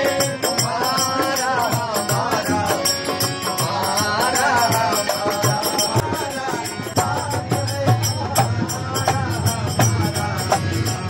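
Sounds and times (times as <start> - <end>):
devotional singing: 0.0 - 11.0
harmonium: 0.0 - 11.0.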